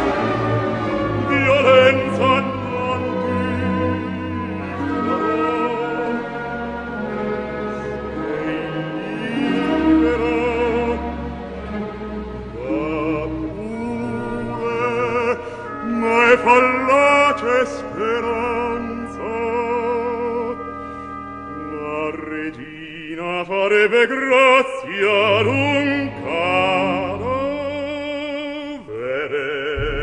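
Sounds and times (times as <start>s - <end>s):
orchestra: 0.0s - 30.0s
operatic solo voice singing: 0.8s - 7.2s, 8.1s - 11.4s, 12.5s - 20.7s, 21.5s - 30.0s.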